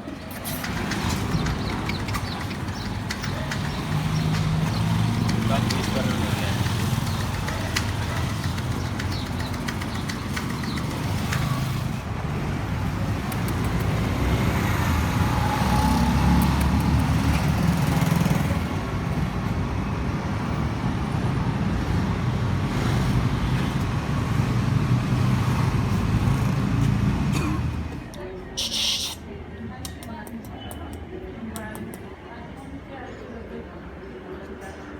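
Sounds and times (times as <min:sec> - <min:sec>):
rumble of passing vehicles: 0:00.0 - 0:34.9.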